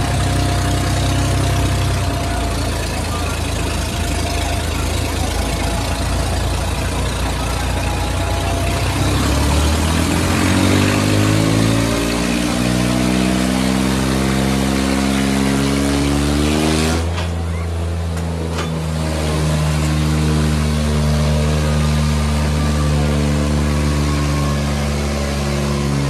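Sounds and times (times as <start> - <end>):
tractor engines under heavy load: 0.0 - 26.0.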